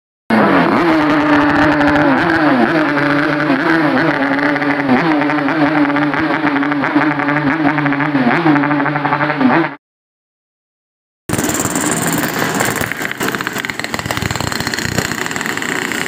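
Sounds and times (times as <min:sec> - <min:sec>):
two-stroke motorcycle engine revving: 0:00.3 - 0:09.8, 0:11.3 - 0:16.0.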